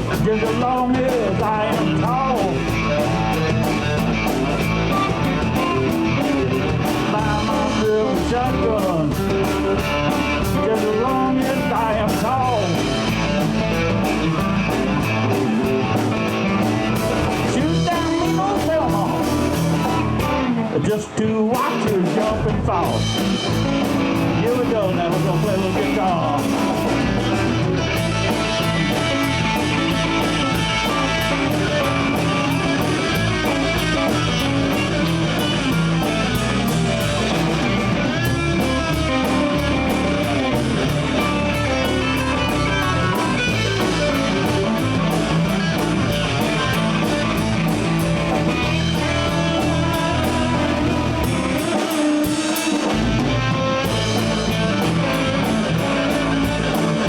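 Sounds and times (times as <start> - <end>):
bass guitar: 0.0 - 57.0
drum kit: 0.0 - 57.0
electric guitar solo with bent notes: 0.0 - 57.0.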